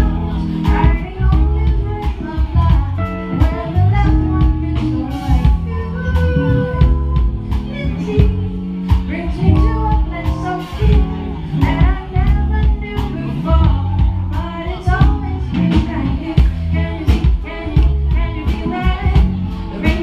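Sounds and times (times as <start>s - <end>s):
drum kit beat: 0.0s - 20.0s
electric guitar: 0.0s - 20.0s.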